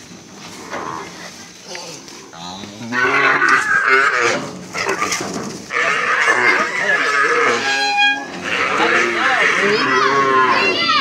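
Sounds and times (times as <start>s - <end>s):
calves bawling: 0.0s - 11.0s.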